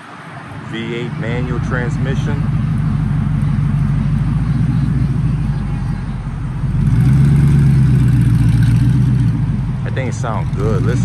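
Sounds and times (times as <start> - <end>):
car engine deep exhaust note: 0.6 - 11.0.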